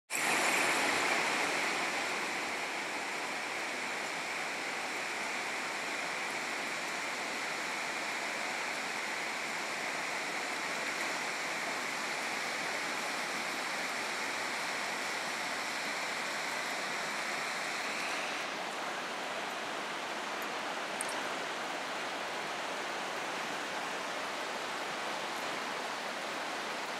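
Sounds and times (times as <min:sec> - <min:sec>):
heavy rain pouring: 0:00.1 - 0:26.9.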